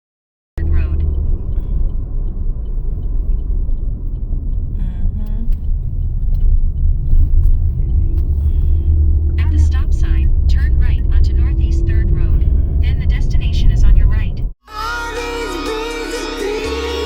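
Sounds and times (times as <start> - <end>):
car engine and road rumble: 0.6 - 17.0.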